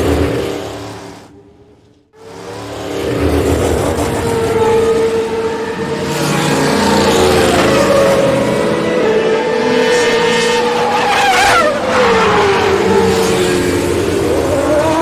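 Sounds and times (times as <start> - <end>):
racing car engine passing: 0.0 - 15.0.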